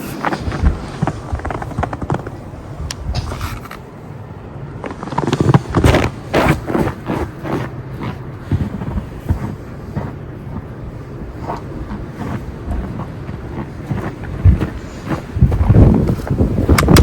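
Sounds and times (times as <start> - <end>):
blizzard wind buffeting microphone: 0.0 - 17.0.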